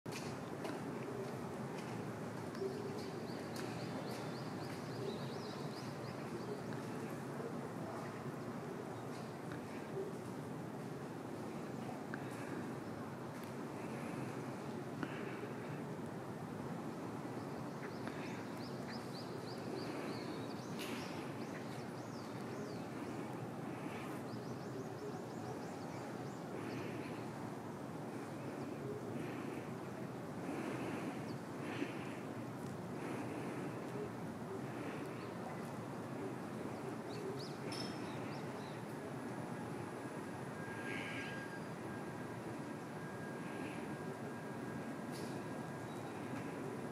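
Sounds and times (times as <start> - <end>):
low outdoor hum: 0.1 - 46.9.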